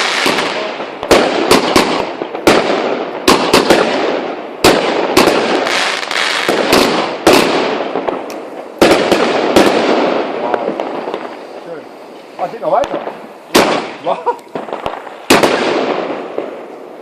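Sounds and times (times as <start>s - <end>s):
fireworks bangs with crackling: 0.0s - 17.0s.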